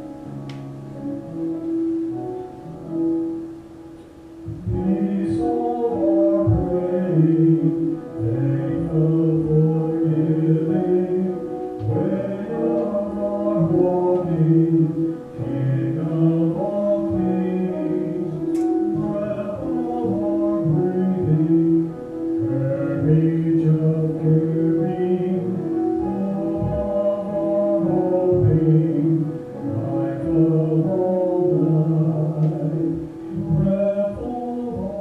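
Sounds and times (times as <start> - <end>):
piano accompaniment: 0.0 - 35.0
men singing church anthem: 4.6 - 18.4, 19.0 - 35.0.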